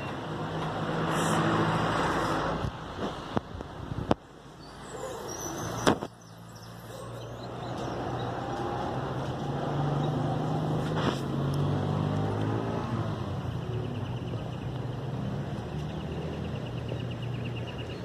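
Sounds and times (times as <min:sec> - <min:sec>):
motor vehicle engine drone: 0:00.0 - 0:18.0.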